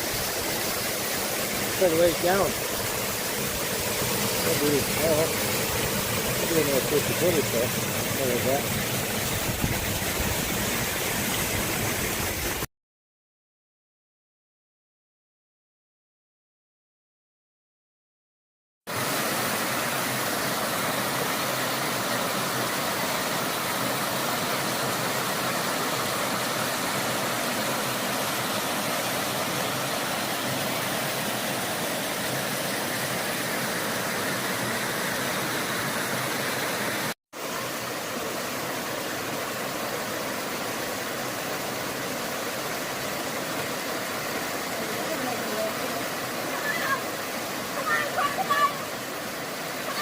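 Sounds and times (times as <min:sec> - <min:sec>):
waterfall rushing: 0:00.0 - 0:12.7, 0:18.9 - 0:50.0.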